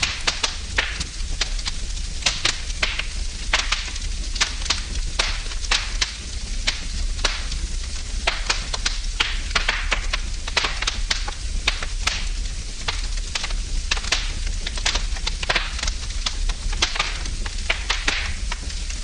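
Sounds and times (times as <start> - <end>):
hiss of burning: 0.0 - 19.0
wood fire crackling: 0.0 - 19.0.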